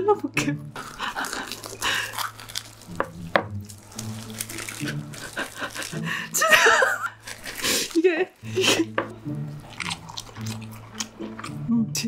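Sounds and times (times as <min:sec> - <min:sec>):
knife crunching through fried crust: 0:00.8 - 0:11.6.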